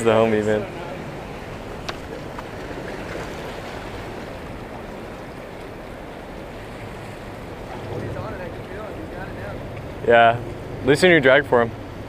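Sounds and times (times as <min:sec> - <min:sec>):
small waves lapping on rocks: 0:00.0 - 0:10.3.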